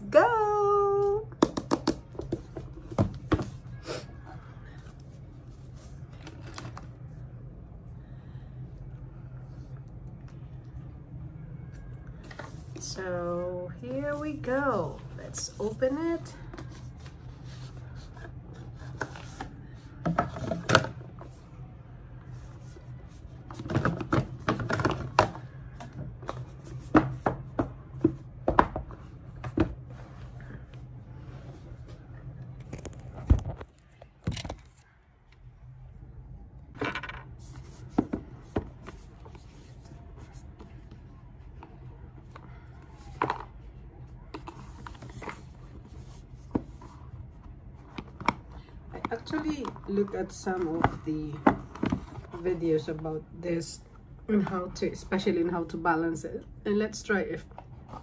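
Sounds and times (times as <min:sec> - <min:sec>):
steady low hum: 0:02.0 - 0:58.0.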